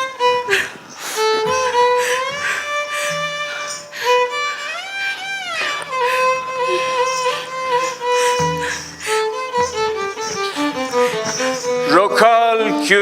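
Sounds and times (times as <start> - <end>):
violin playing slow melody: 0.0 - 13.0.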